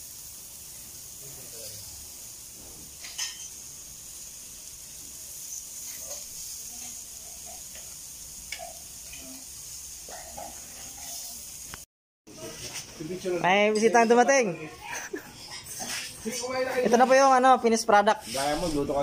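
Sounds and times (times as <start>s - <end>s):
meat sizzling on a grill: 0.0s - 19.0s.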